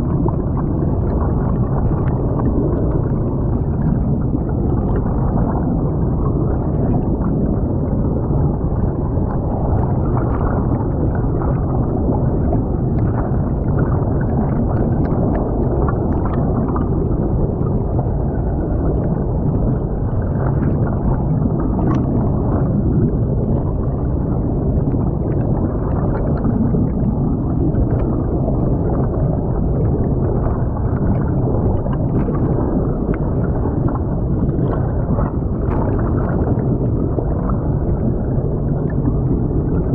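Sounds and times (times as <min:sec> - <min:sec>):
muffled underwater water rush: 0:00.0 - 0:39.9.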